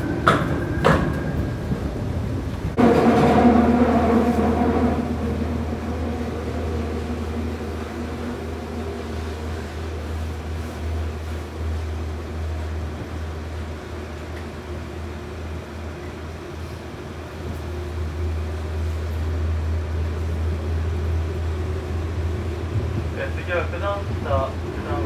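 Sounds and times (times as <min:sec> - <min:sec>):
subway car hum and rumble: 0:00.0 - 0:25.0.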